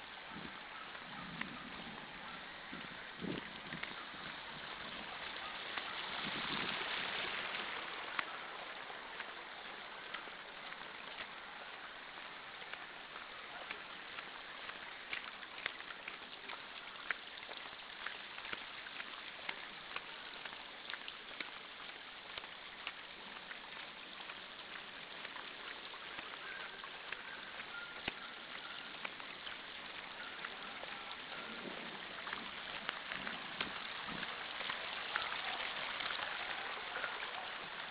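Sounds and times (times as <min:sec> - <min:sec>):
raindrops ticking and splashing: 0:00.0 - 0:37.9
water rushing over pavement: 0:00.0 - 0:37.9.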